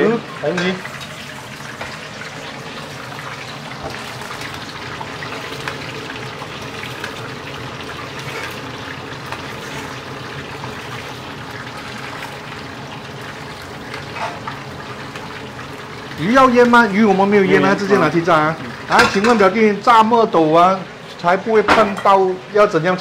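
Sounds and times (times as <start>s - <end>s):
fish sizzling in hot oil: 0.0s - 20.4s.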